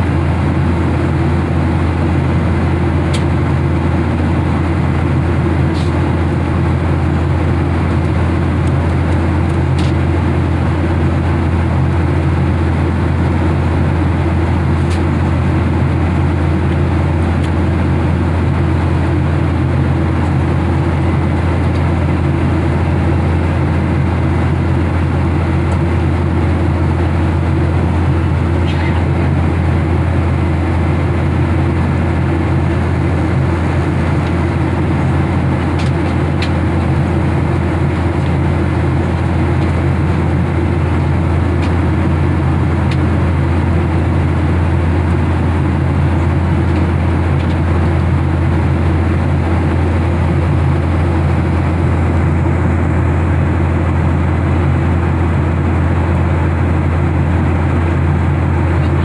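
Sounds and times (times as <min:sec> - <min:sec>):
airliner cabin drone: 0:00.0 - 0:59.0.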